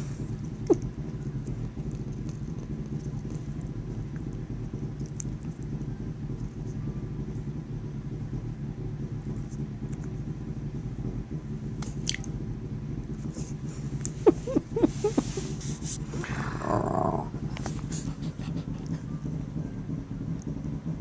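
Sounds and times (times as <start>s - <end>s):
cat purring: 0.0s - 10.6s, 13.1s - 21.0s.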